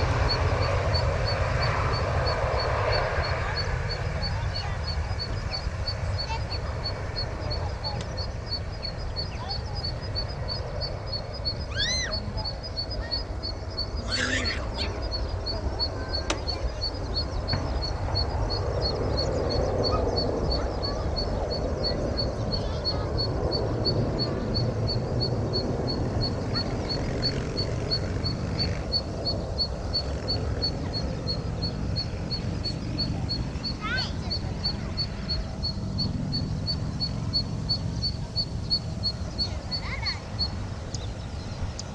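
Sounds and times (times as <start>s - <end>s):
faint high chirp: 0.0s - 41.9s
jet engines rumbling: 0.0s - 41.9s.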